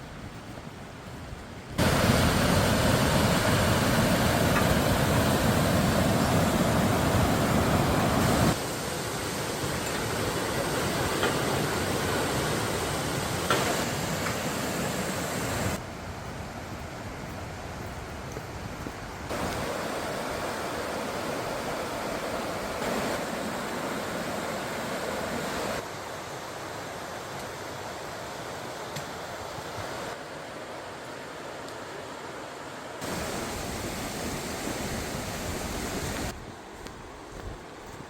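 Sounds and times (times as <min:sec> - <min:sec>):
stream rushing over rocks: 0:01.8 - 0:15.8, 0:19.3 - 0:36.4.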